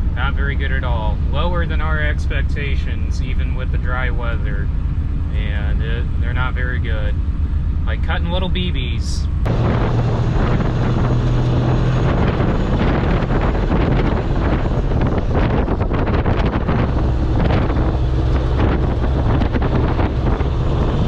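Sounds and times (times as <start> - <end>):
combine harvester running: 0.0 - 21.0
wind noise on microphone: 0.0 - 21.0.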